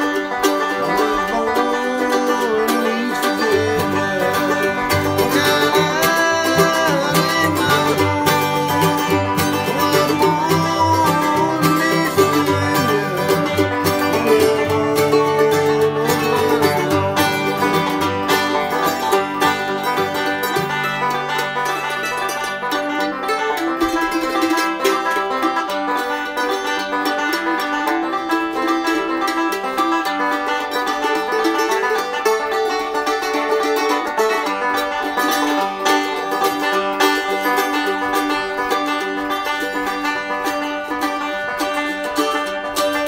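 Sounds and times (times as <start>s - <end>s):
bluegrass banjo music: 0.0s - 43.0s.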